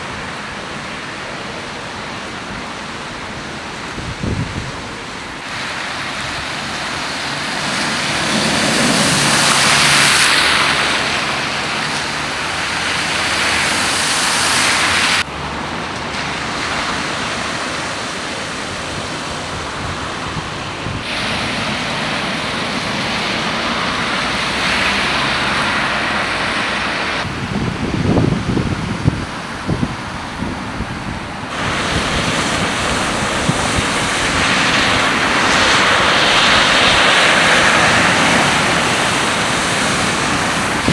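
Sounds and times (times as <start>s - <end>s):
tyres splashing through water: 0.0s - 40.9s
wind on microphone: 3.7s - 15.3s, 16.5s - 40.9s.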